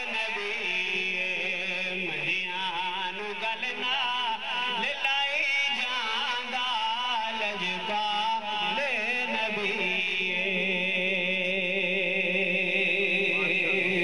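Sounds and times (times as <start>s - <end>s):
man chanting through loudspeaker: 0.0s - 14.0s.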